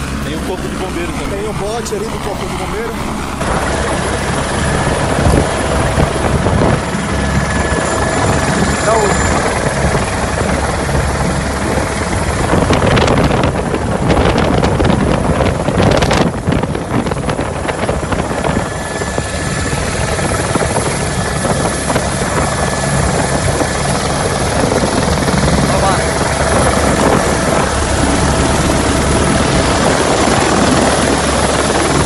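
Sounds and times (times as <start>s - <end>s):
helicopter rotor and turbine drone: 0.0s - 32.0s
rushing noise: 0.0s - 32.0s
thin steady whine: 0.0s - 32.0s.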